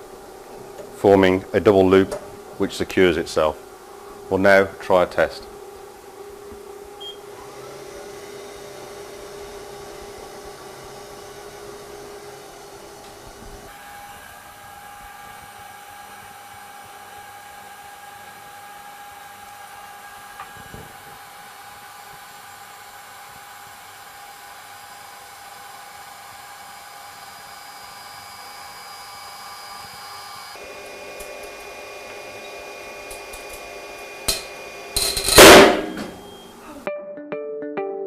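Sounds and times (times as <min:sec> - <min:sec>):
testing machine drive whine: 0:00.0 - 0:36.8.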